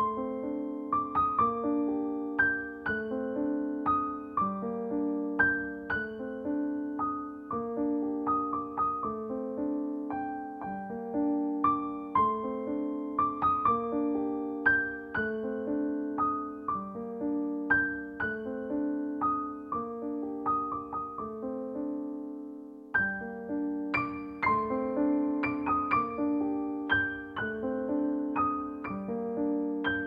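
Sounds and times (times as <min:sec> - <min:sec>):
gentle solo piano music: 0:00.0 - 0:30.0.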